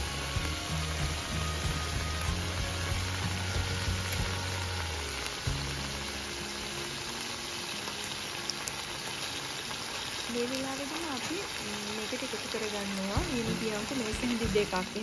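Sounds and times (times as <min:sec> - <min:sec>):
clams sizzling in a pan: 0:00.0 - 0:15.0.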